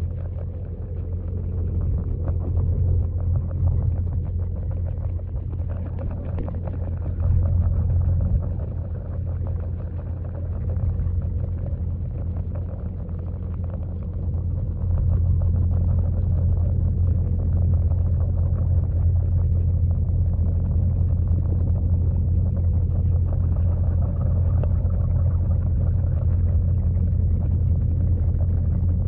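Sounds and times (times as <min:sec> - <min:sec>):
underwater churning water rumble: 0:00.0 - 0:29.0.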